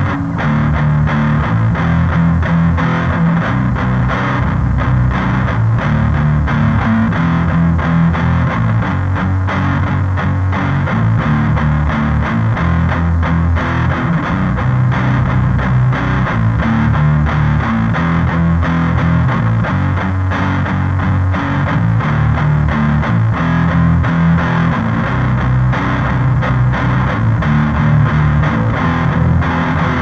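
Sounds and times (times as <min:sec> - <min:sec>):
distorted electric guitar: 0:00.0 - 0:30.0
heavy bass line: 0:00.0 - 0:30.0
rock music: 0:00.0 - 0:30.0.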